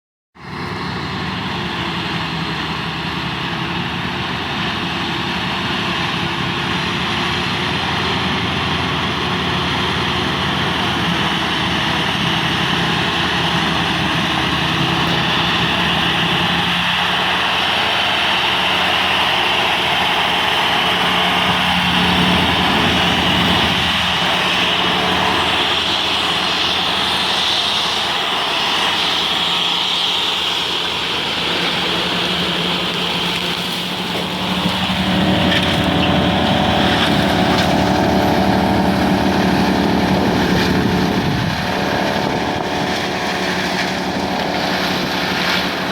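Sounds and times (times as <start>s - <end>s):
heavy farm machinery engine drone: 0.4s - 45.9s.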